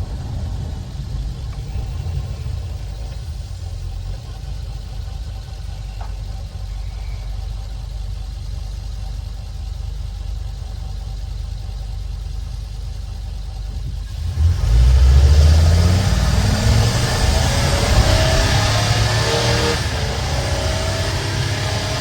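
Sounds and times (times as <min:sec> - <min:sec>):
engine running and accelerating: 0:00.0 - 0:22.0.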